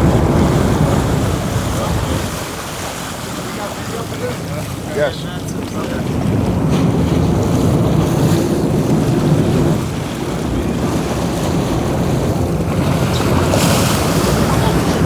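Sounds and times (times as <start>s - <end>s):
boat running on water: 0.0s - 15.0s
water churning along hull: 0.0s - 15.0s
wind buffeting microphone: 0.0s - 15.0s.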